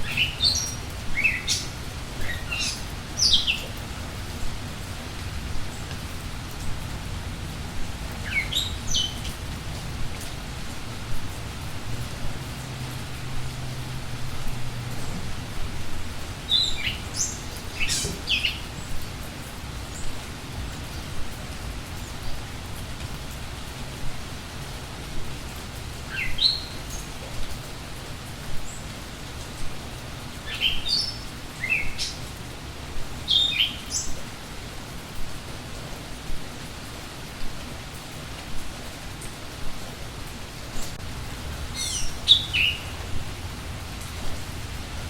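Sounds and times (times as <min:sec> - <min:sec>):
songbirds chirping: 0:00.0 - 0:35.6, 0:40.0 - 0:44.8
steady rain: 0:00.0 - 0:45.0.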